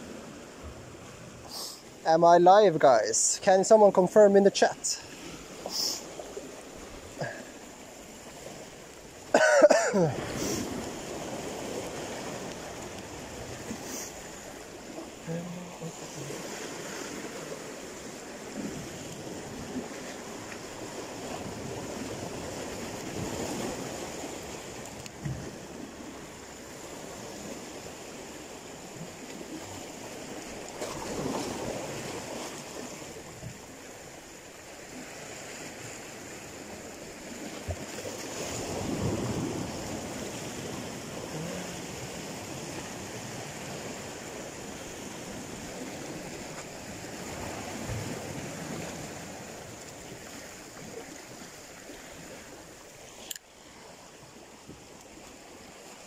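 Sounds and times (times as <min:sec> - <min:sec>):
sea waves washing against rocks: 0:00.0 - 0:56.0.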